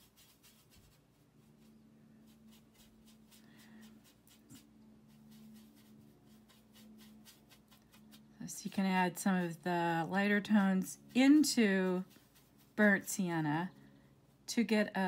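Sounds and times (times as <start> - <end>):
brush scratching on palette: 0.0 - 13.7
low steady hum: 0.0 - 15.0.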